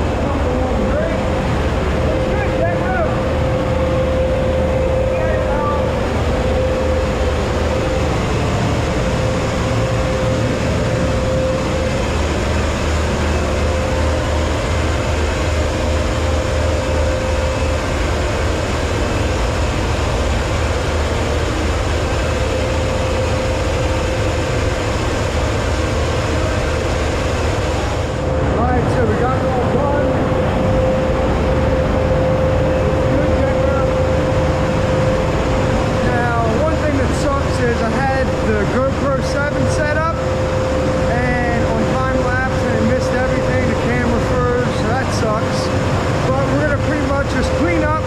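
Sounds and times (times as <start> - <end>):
heavy engine rumbling with whine: 0.0 - 48.0.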